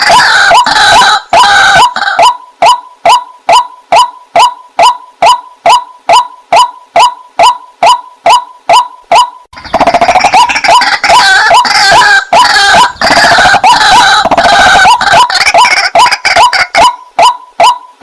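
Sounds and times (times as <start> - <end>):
water hen calling: 0.0 - 17.9.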